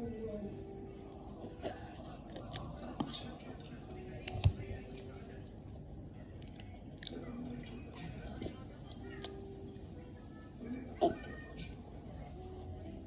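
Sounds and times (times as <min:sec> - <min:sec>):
faint background voices: 0:00.0 - 0:13.0.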